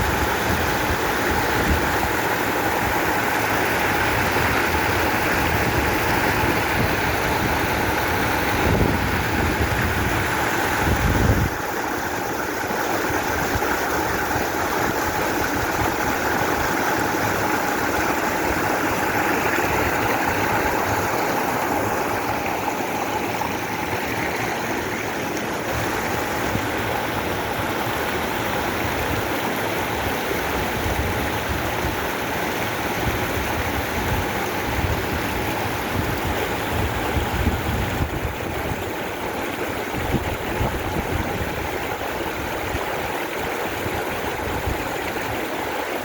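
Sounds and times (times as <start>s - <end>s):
flowing water rushing: 0.0s - 46.0s.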